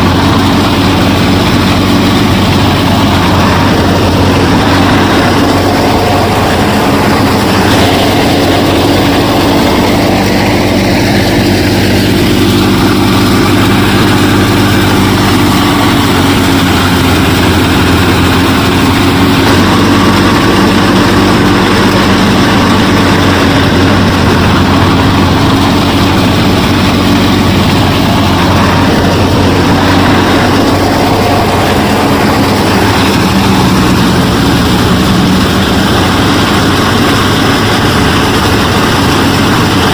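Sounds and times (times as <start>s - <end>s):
small motor droning: 0.0s - 39.9s.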